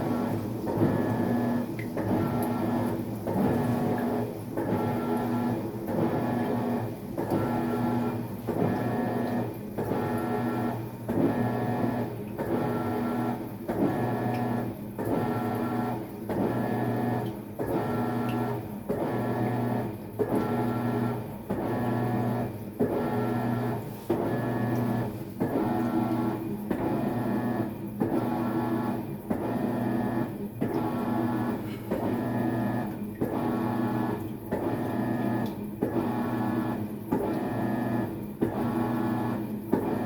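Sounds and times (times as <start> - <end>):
washing machine motor whining: 0.0 - 40.0.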